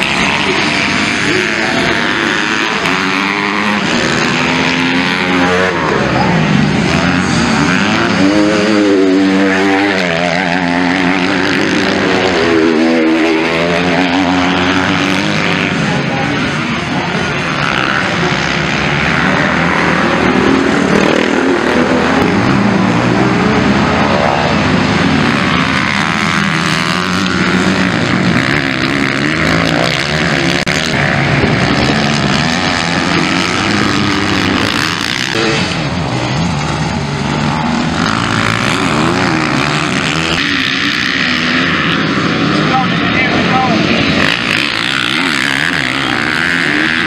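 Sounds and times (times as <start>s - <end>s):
motocross bike engines revving: 0.0s - 47.0s.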